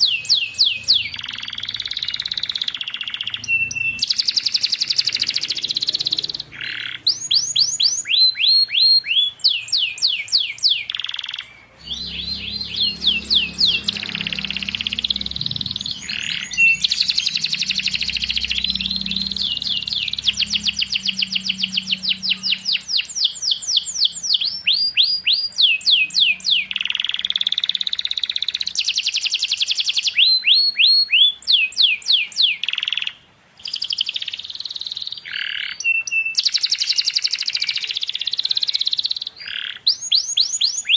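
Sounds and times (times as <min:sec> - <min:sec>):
canary singing trills and whistles: 0:00.0 - 0:40.9.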